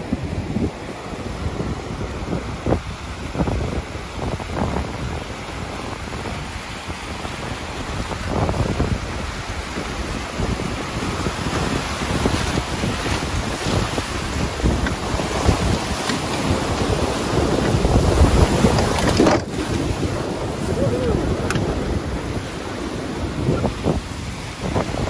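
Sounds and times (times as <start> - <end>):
wind buffeting microphone: 0.0 - 25.0
river rapids rushing: 0.8 - 25.0.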